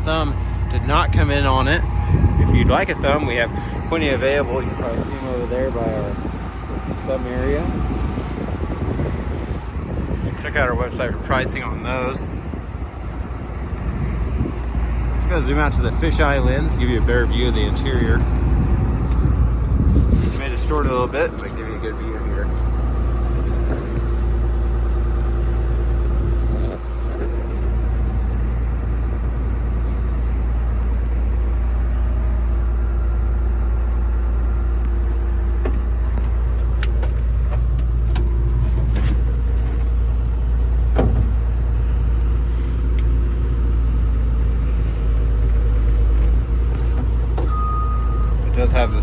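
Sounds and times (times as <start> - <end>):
diesel engine idling: 0.0 - 49.0.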